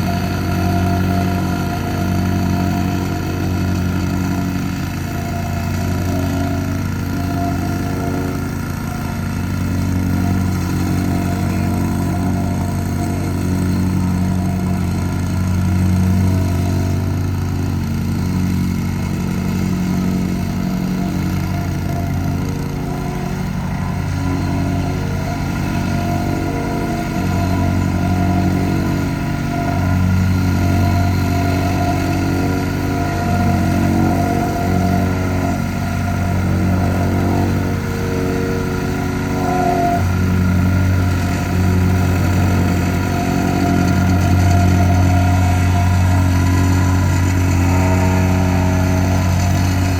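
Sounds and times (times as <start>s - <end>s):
plate compactor engine running: 0.0s - 49.9s.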